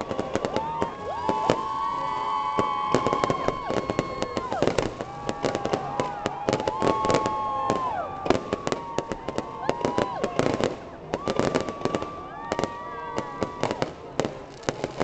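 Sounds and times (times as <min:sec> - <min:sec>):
fireworks crackling bangs: 0:00.0 - 0:15.0
fireworks whistling: 0:00.0 - 0:15.0.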